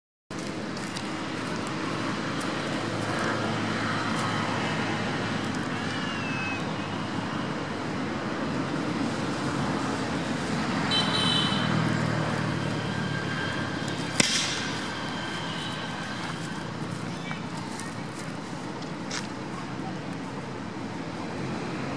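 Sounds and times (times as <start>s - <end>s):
outdoor background noise: 0.3s - 21.9s.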